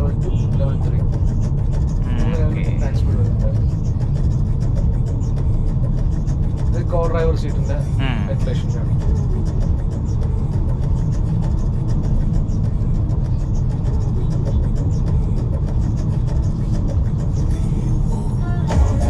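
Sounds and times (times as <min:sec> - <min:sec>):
car cabin low rumble: 0:00.0 - 0:19.0.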